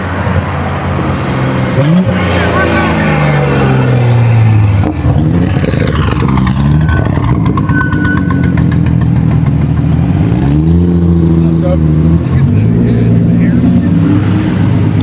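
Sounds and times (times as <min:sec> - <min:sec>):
car engine revving: 0:00.3 - 0:15.0.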